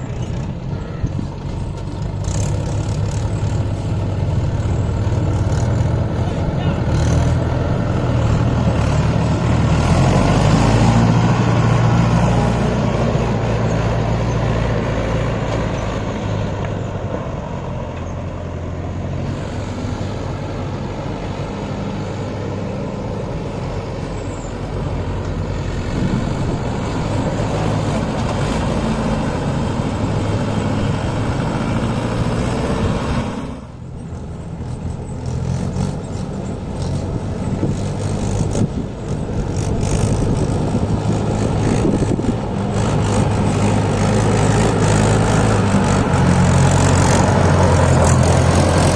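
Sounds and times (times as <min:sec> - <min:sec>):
tractor diesel engine working: 0:00.0 - 0:48.9.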